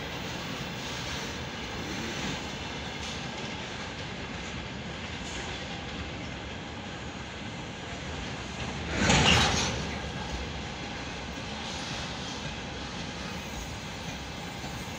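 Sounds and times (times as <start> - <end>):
freight train rolling past: 0.0 - 14.9.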